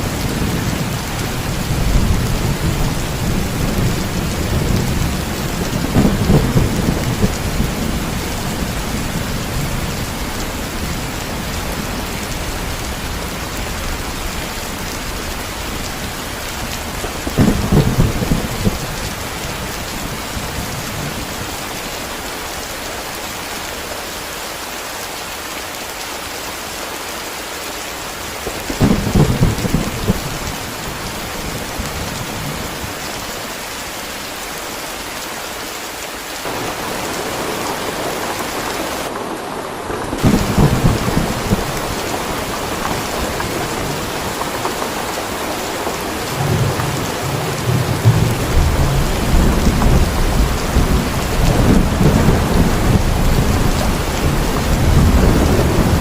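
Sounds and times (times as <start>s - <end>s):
thunder rumbling: 0.0s - 21.6s, 28.5s - 32.9s, 36.5s - 56.0s
heavy rain: 0.0s - 56.0s.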